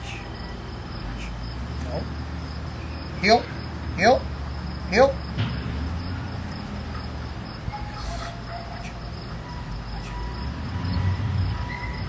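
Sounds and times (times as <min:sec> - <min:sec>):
cricket trill: 0:00.0 - 0:12.0.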